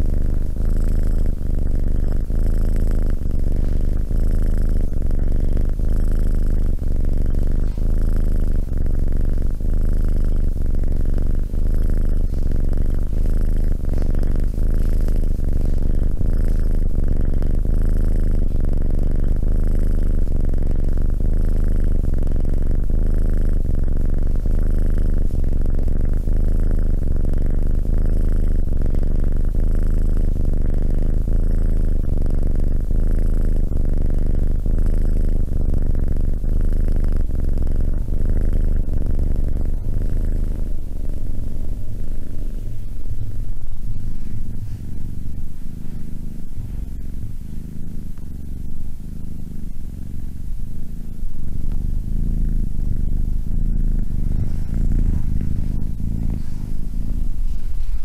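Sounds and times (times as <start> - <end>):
kitten purring: 0.0 - 58.0.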